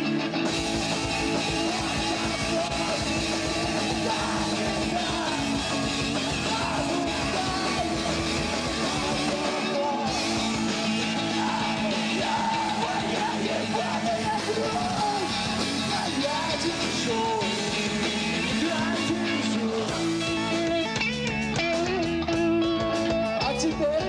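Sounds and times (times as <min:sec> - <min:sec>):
person singing: 0:00.0 - 0:21.0
rock band playing: 0:00.0 - 0:24.0.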